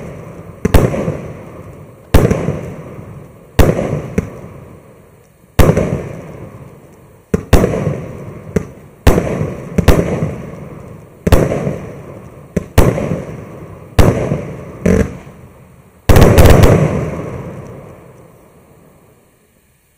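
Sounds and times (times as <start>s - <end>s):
fireworks reports: 0.0s - 19.9s.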